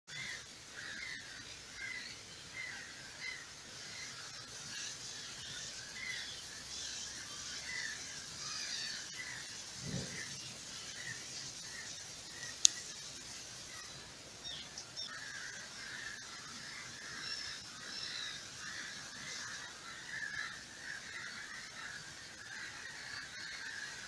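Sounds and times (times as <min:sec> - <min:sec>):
steady high hiss: 0:00.1 - 0:24.0.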